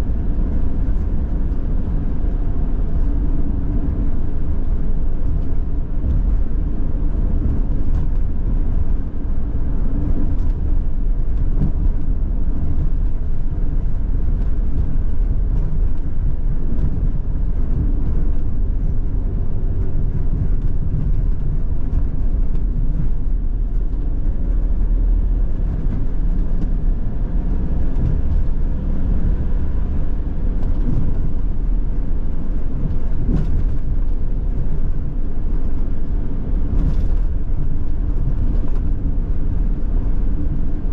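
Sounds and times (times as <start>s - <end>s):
van engine and tyre rumble: 0.0s - 40.9s.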